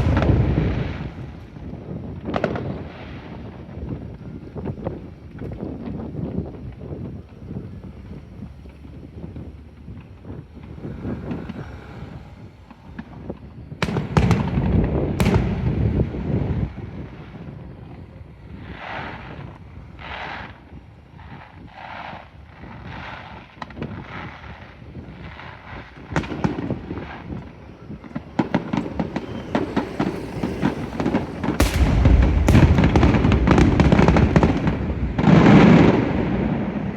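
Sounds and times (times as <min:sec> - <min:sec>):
fireworks bangs: 0:00.0 - 0:36.9
fireworks crackling rumble: 0:00.0 - 0:36.9.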